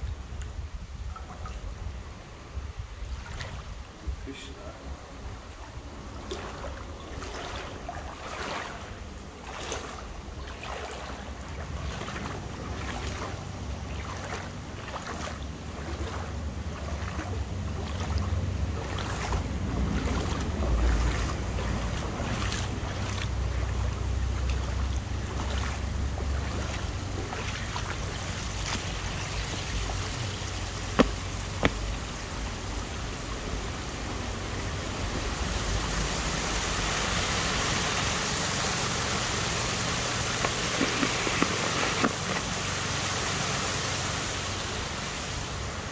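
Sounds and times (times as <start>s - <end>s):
stream water rushing over weir: 0.0s - 45.9s.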